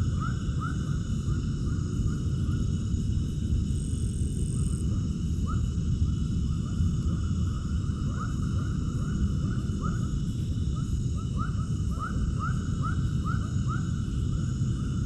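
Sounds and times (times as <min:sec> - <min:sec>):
steady low rumble: 0:00.8 - 0:15.0.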